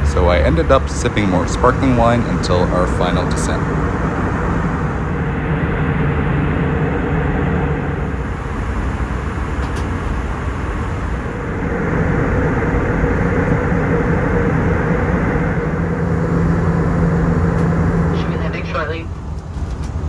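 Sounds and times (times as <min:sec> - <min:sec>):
aircraft cabin engine roar: 0:00.0 - 0:20.0
low hum: 0:00.0 - 0:20.0.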